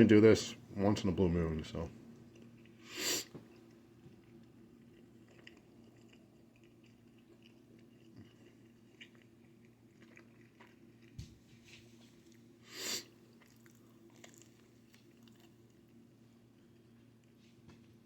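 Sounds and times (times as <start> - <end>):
steady low hum: 0.0 - 18.0
chewing food: 2.1 - 18.0.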